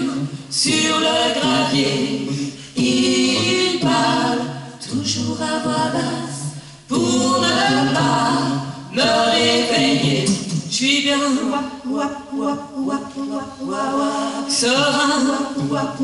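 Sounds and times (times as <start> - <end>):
a cappella choir singing: 0.0 - 16.0.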